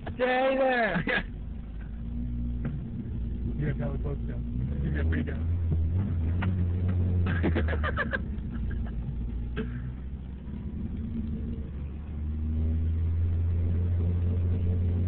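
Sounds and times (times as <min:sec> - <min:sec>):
car engine hum inside cabin: 0:00.0 - 0:15.0.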